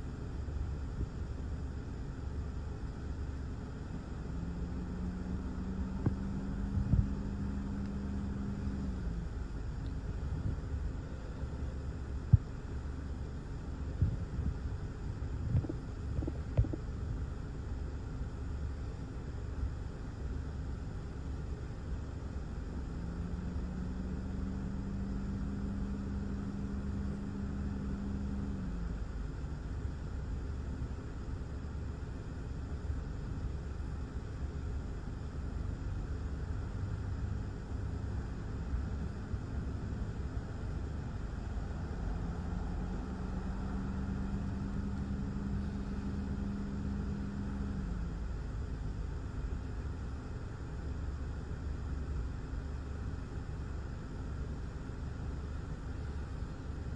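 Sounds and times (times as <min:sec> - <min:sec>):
low hum: 0:00.0 - 0:56.9
wind: 0:00.0 - 0:56.9.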